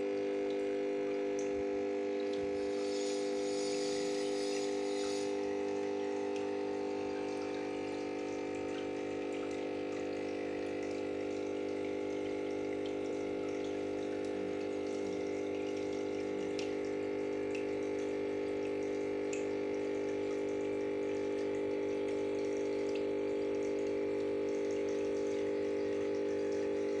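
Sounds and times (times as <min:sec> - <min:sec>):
aquarium pump humming: 0:00.0 - 0:27.0
water trickling and splashing: 0:00.0 - 0:27.0.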